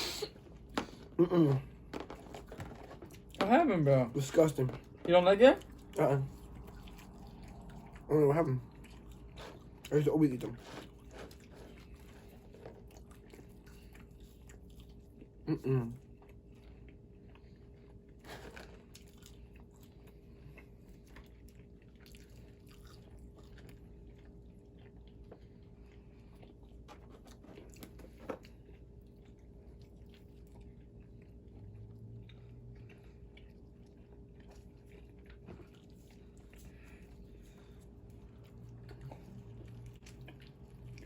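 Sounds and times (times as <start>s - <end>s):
chewing and crunching food: 0.0s - 41.0s
steady low hum: 0.0s - 41.0s.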